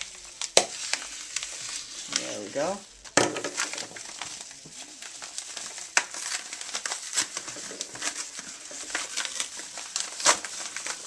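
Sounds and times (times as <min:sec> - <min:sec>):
paper mailer crinkling: 0:00.0 - 0:11.0.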